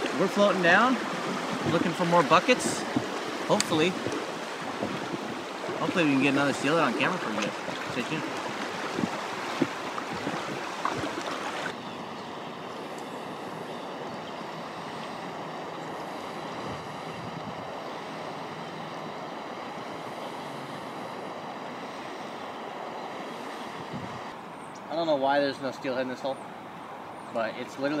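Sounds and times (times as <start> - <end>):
river water rushing: 0.0 - 24.7.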